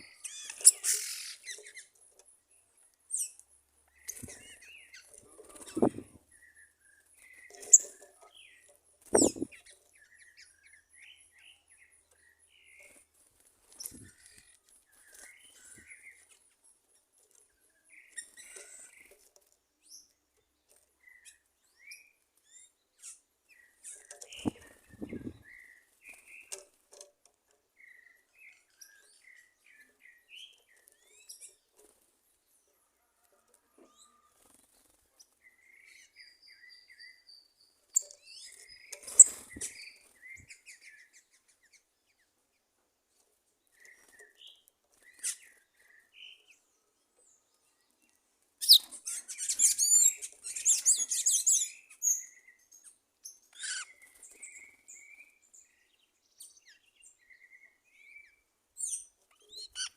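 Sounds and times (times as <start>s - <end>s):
soft bird chirps: 0.0s - 13.1s, 13.7s - 27.1s, 32.7s - 42.3s, 43.1s - 59.9s.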